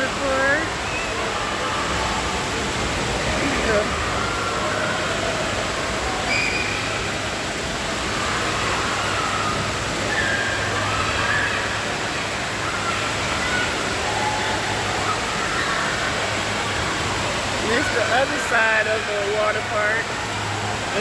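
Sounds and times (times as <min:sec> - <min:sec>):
rush of running water: 0:00.0 - 0:21.0.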